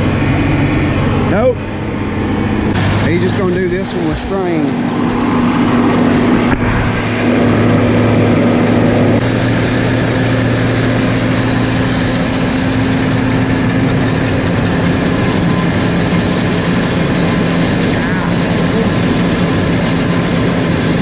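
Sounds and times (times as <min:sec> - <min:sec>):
baler machinery turning: 0:00.0 - 0:21.0
tractor engine running: 0:00.0 - 0:21.0.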